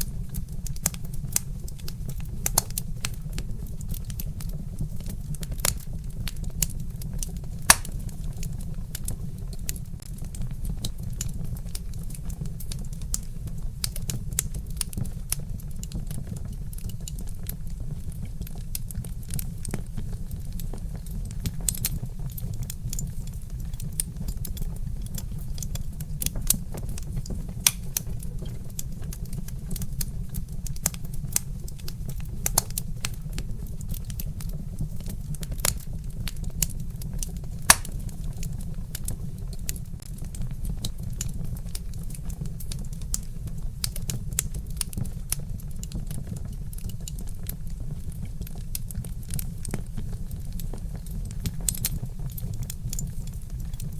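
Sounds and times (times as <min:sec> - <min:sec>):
logs crackling in fireplace: 0:00.0 - 0:53.9.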